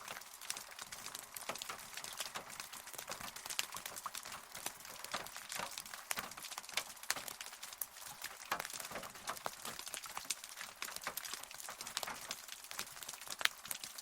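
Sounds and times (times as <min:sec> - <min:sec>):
rain falling: 0:00.0 - 0:14.0
raindrops ticking: 0:00.0 - 0:14.0.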